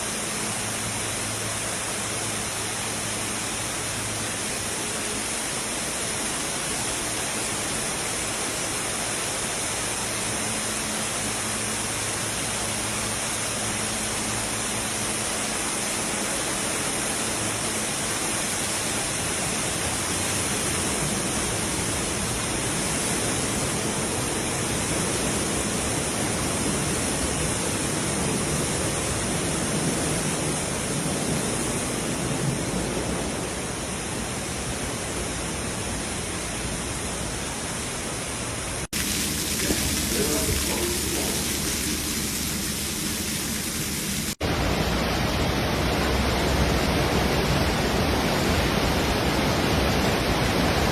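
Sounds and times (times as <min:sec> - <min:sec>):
rushing water: 0:00.0 - 0:50.9
torrential rain: 0:00.0 - 0:50.9.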